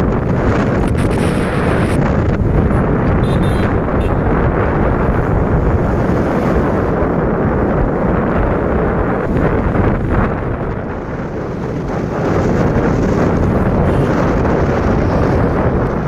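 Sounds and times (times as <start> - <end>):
road noise: 0.0 - 16.0
wind roaring over microphone: 0.0 - 16.0.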